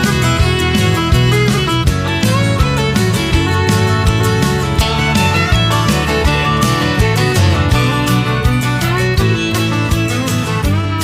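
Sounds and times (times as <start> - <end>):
upbeat country music with fiddle: 0.0 - 11.0.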